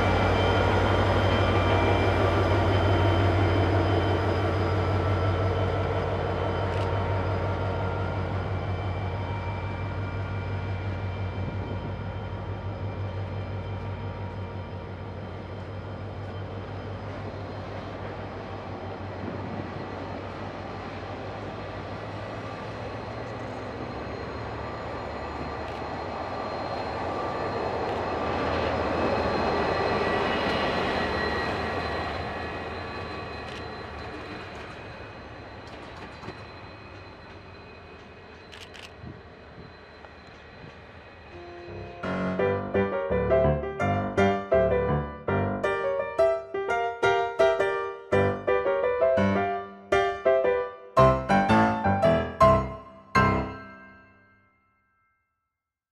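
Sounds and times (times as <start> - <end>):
train wheel and rail noise: 0.0 - 54.0.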